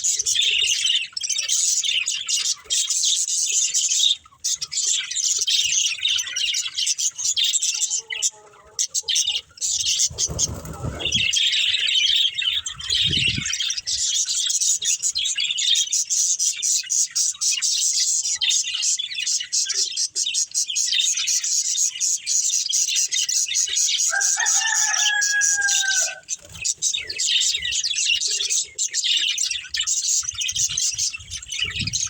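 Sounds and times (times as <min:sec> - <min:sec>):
budgerigars chirping and chattering: 0:00.0 - 0:32.0.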